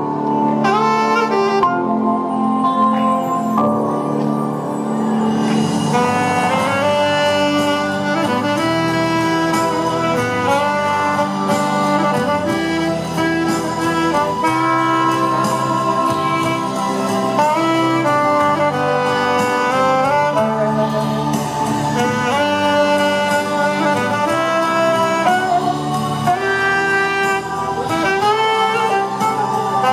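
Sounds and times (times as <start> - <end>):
instrumental melody over low notes: 0.0 - 29.9.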